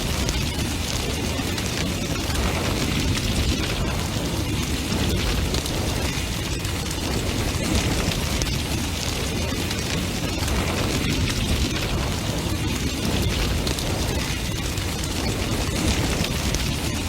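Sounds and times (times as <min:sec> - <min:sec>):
burning wood crackling: 0:00.0 - 0:17.0
roar of bonfire flames: 0:00.0 - 0:17.0.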